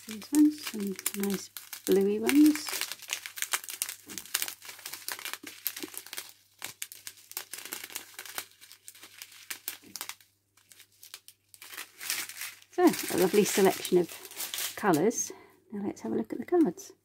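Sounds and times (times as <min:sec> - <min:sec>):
plastic bags crinkling: 0:00.0 - 0:15.3.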